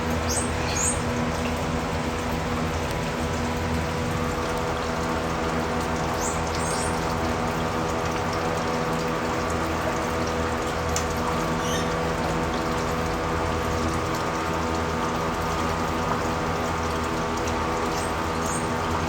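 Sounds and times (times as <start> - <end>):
mechanical hum: 0.0 - 19.0
rushing water: 0.0 - 19.0.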